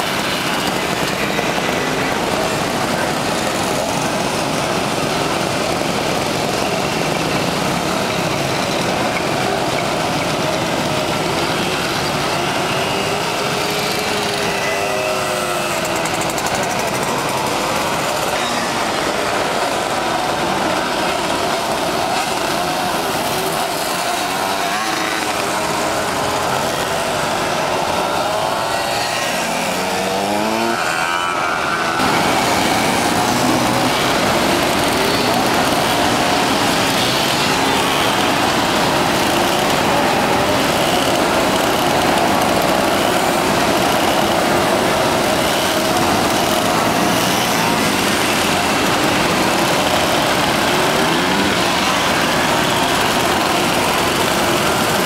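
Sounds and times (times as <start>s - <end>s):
moped engines revving: 0.0s - 55.0s.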